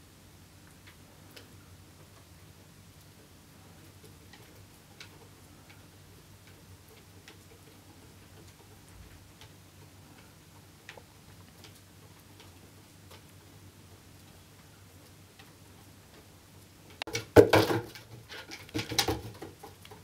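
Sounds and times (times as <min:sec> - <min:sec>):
cat wheel ticking: 0:00.8 - 0:17.4.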